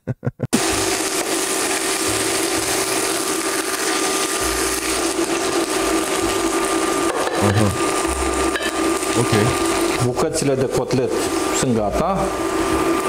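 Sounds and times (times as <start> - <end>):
extractor fan humming: 0.6 - 13.0
food sizzling in a pan: 0.6 - 13.0.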